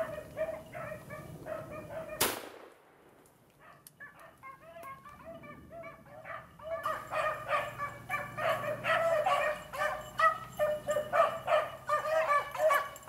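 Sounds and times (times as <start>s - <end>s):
hounds baying: 0.0s - 2.2s, 3.6s - 13.0s.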